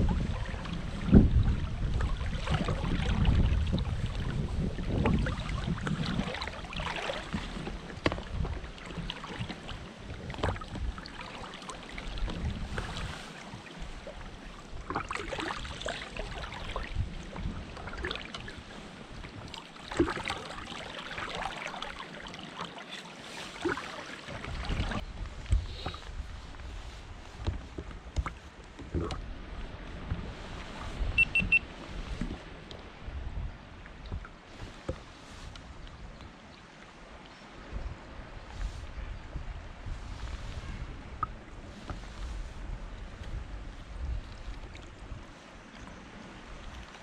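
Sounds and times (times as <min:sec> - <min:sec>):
wind buffeting microphone: 0:00.0 - 0:11.1, 0:11.9 - 0:15.6, 0:16.2 - 0:20.3, 0:24.3 - 0:36.4, 0:37.5 - 0:47.0
water sloshing and splashing: 0:00.0 - 0:47.0.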